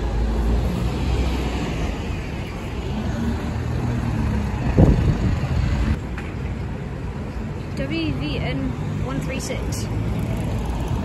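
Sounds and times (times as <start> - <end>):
bus engine low hum: 0.0 - 11.0
street traffic: 0.0 - 11.0.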